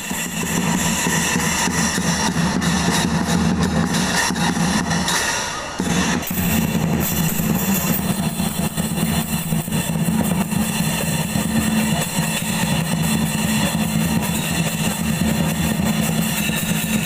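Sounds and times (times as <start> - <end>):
barrel drum beaten rapidly: 0.0 - 5.2, 5.8 - 17.0
cymbals clashing: 0.0 - 17.0.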